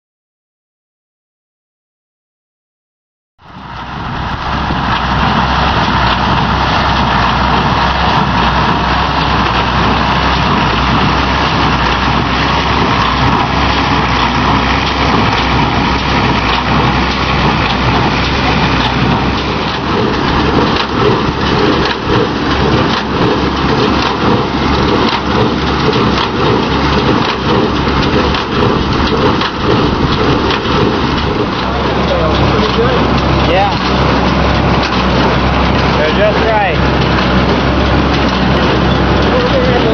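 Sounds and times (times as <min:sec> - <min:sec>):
heavy rushing noise: 0:03.4 - 0:39.9
square baler pulsing: 0:03.4 - 0:39.9
tractor running under load: 0:03.4 - 0:39.9.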